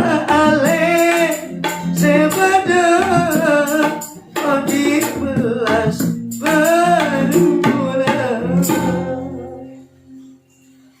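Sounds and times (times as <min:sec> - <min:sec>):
man singing: 0:00.0 - 0:10.0
hand drum strokes: 0:00.0 - 0:11.0.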